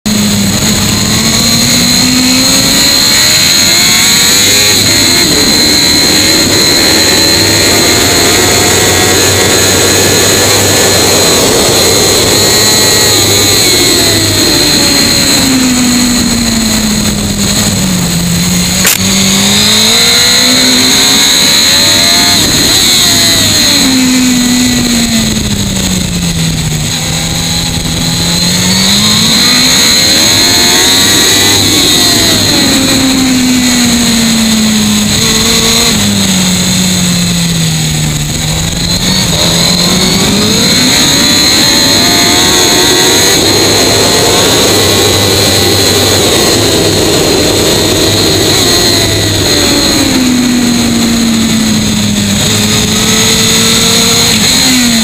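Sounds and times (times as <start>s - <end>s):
motorcycle engine at full throttle: 0.0s - 55.0s
rush of noise: 0.0s - 55.0s.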